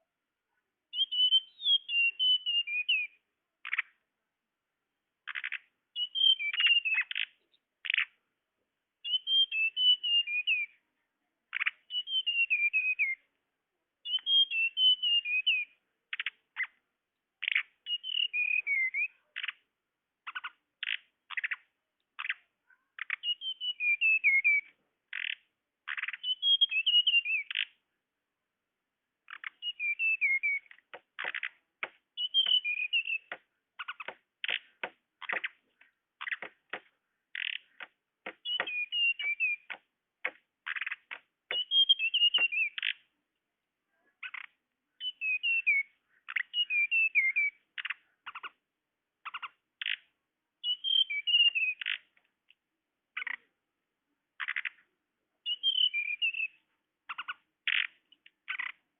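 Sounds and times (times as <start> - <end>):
bird ticking and twittering call: 0.9 - 4.0, 5.2 - 8.2, 9.0 - 10.8, 11.5 - 13.2, 14.0 - 16.8, 17.4 - 27.8, 29.3 - 43.1, 44.2 - 48.6, 49.2 - 52.2, 53.2 - 53.5, 54.4 - 58.9.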